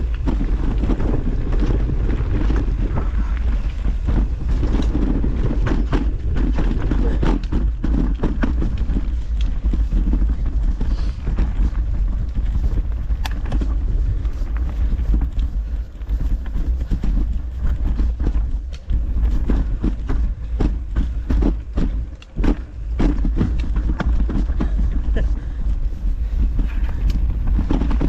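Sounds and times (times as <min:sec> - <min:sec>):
bike clattering over rocks: 0:00.0 - 0:28.0
bike rumbling on rocky trail: 0:00.0 - 0:28.0.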